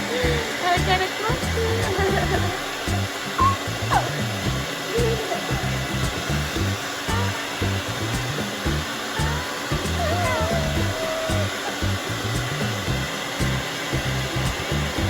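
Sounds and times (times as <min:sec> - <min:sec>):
background music: 0:00.0 - 0:15.0
hair dryer blowing: 0:00.0 - 0:15.0.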